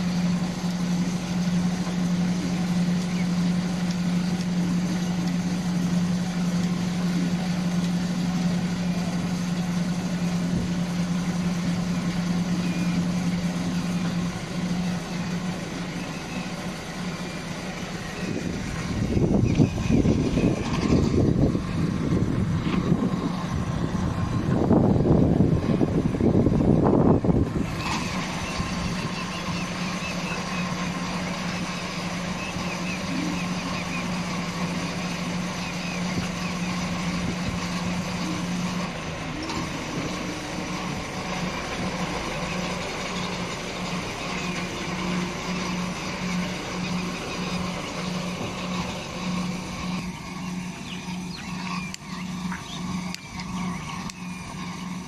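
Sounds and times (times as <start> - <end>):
heavy machinery running: 0.0 - 55.0.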